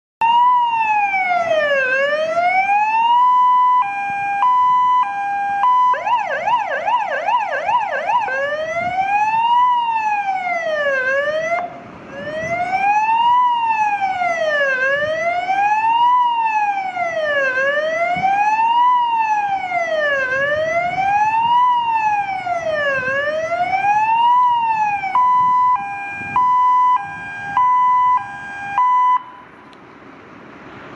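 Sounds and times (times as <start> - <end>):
fire engine siren: 0.2 - 29.8.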